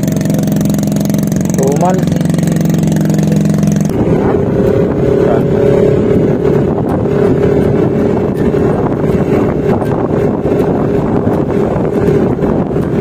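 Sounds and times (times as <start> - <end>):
engine idling: 0.0 - 13.0
scooter engine drone: 0.0 - 13.0
wind buffeting microphone: 0.0 - 13.0.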